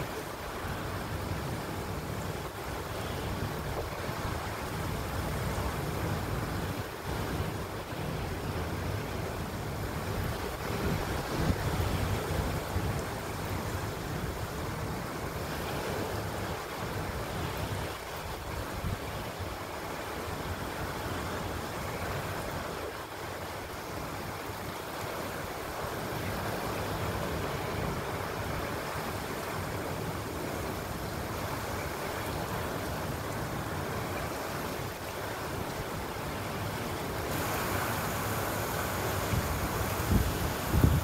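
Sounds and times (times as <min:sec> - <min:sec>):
heavy rain: 0:00.0 - 0:41.0
strong storm wind: 0:00.0 - 0:41.0.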